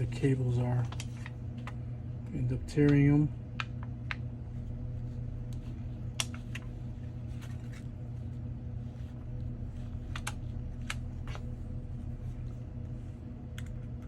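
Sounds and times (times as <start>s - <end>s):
steady low electrical hum: 0.0s - 14.0s.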